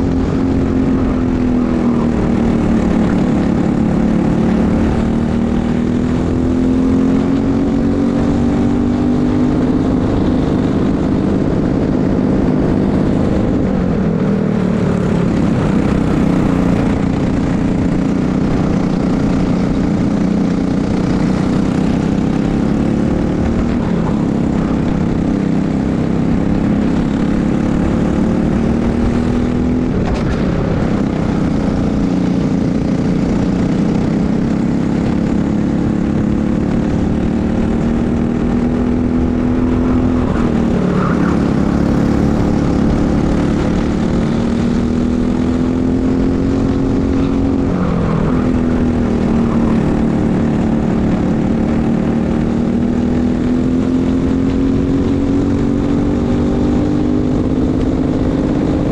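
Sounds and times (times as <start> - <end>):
kart engine running hard: 0.0 - 58.9.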